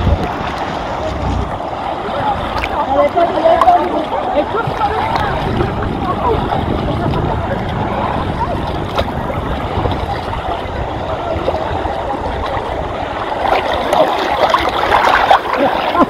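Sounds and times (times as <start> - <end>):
water sloshing as people wade: 0.0 - 16.0.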